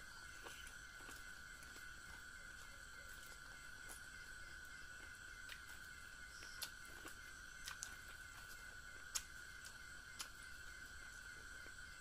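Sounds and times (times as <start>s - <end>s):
biting and chewing corn: 0.0s - 12.0s.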